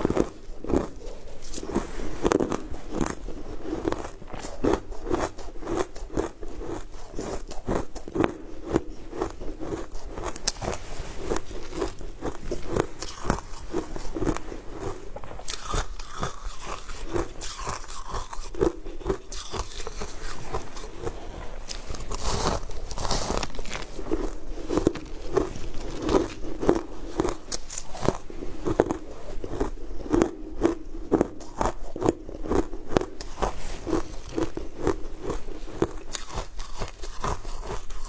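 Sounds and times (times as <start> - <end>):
crisp crunching while chewing: 0.0 - 38.0.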